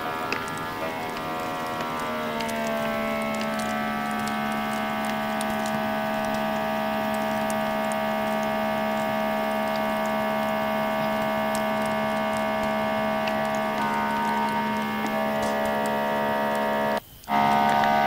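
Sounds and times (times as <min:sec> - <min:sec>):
faint clicks: 0:00.0 - 0:18.0
vacuum sealer humming: 0:00.0 - 0:18.0.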